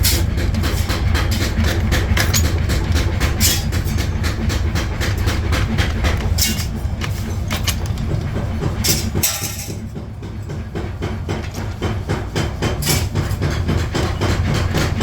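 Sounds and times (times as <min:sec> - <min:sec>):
hammer strikes on steel: 0:00.0 - 0:15.0
steady machine hum: 0:00.0 - 0:15.0.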